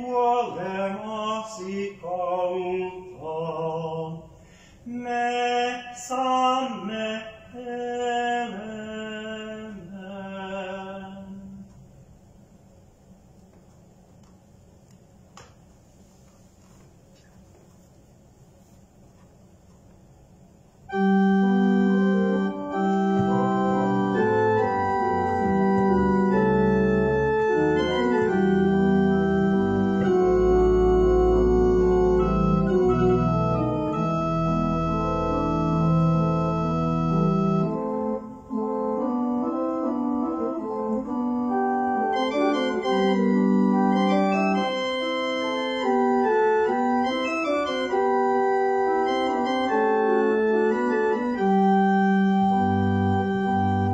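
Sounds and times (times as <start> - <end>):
church organ playing chords: 0.0 - 4.2, 4.9 - 11.7, 20.8 - 53.9.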